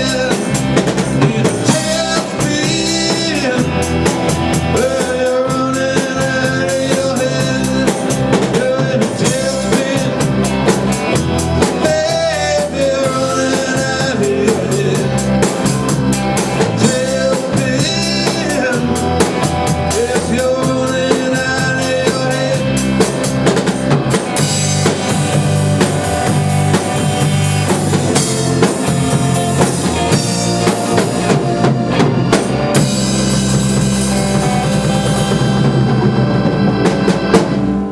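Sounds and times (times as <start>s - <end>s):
drum kit steady beat: 0.0s - 37.9s
rock band playing: 0.0s - 37.9s
sustained guitar or keyboard notes: 0.0s - 37.9s.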